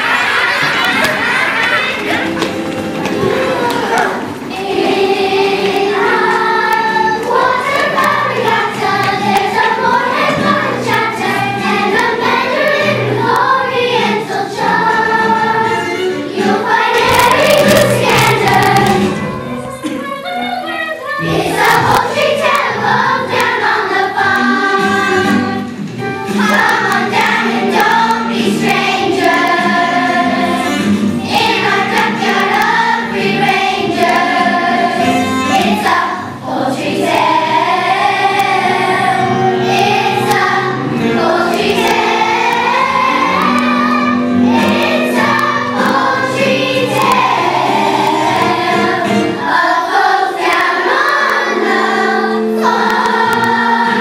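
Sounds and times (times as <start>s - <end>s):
children's choir singing: 0.0s - 54.0s
instrumental accompaniment: 0.2s - 54.0s.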